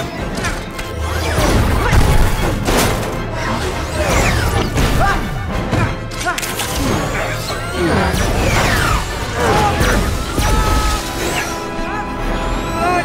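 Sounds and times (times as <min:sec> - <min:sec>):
action film score music: 0:00.0 - 0:13.0.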